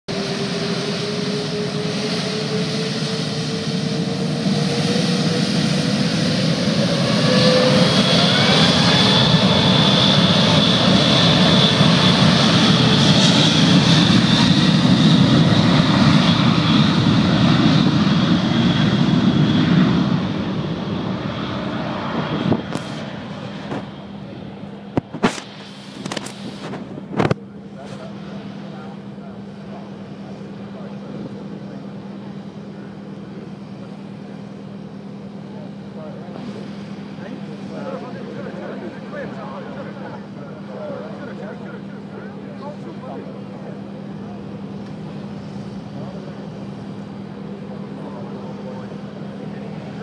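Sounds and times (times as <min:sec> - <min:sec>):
jet engines spooling up: 0:00.1 - 0:50.0.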